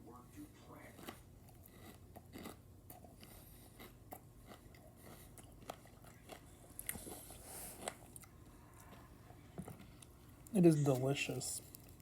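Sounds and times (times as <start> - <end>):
person chewing crunchy candy: 0.8 - 10.6.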